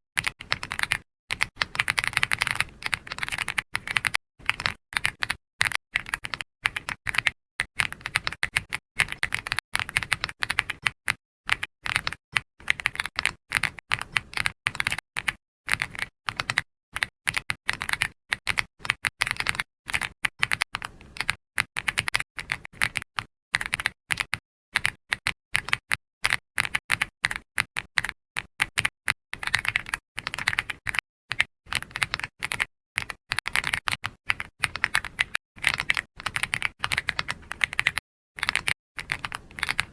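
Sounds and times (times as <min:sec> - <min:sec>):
computer keyboard typing: 0:00.2 - 0:39.9.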